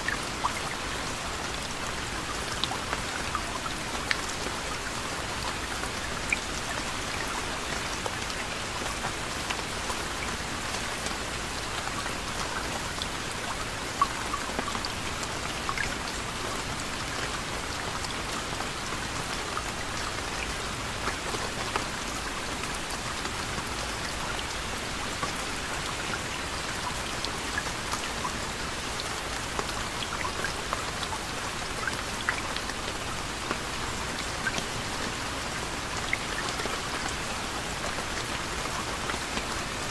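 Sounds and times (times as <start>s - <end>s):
raindrops pattering on a surface: 0.0s - 39.9s.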